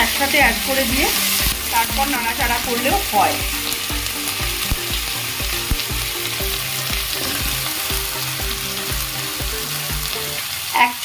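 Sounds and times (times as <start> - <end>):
background music with a beat: 0.0 - 10.5
food sizzling in a pan: 0.0 - 11.0.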